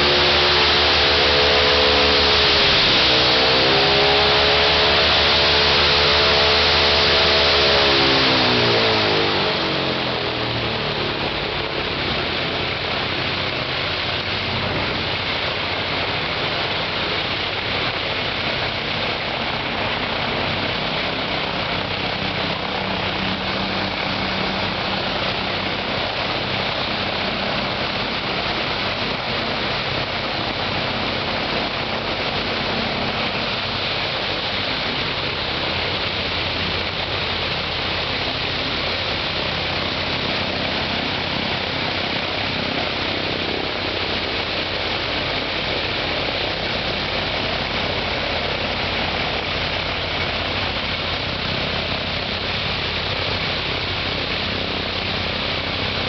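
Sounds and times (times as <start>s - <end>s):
radial engine running: 0.0s - 56.0s.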